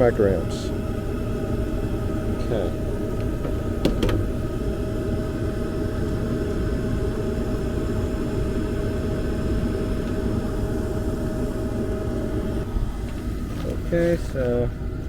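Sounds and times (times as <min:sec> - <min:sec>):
gas furnace rumbling: 0:00.0 - 0:15.0.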